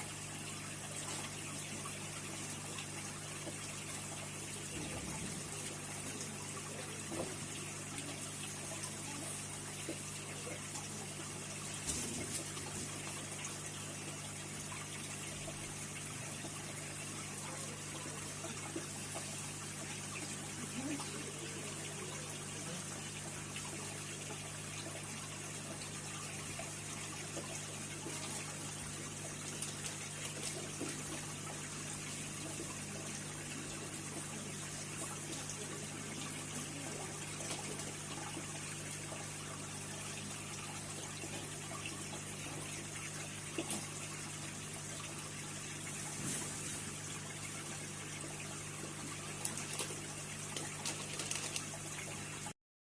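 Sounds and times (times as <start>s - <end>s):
aquarium water running: 0.0s - 52.6s.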